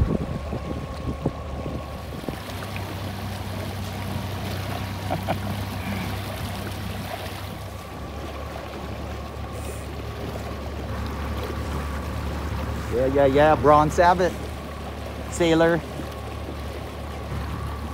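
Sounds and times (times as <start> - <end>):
low motor hum: 0.0 - 17.9
water splashing against hull: 0.0 - 17.9.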